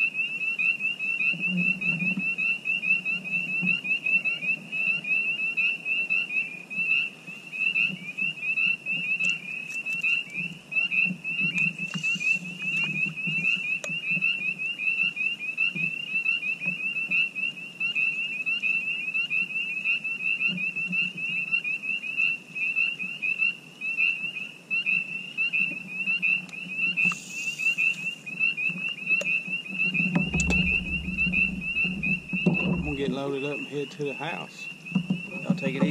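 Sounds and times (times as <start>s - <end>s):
frogs peeping: 0.0s - 35.9s.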